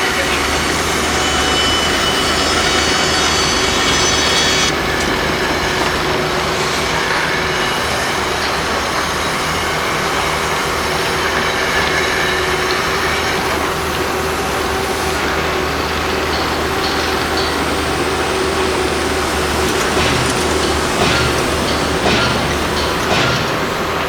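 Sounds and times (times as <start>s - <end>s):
construction machinery rumble: 0.0s - 24.0s
high-pitched metallic tones: 0.0s - 24.0s.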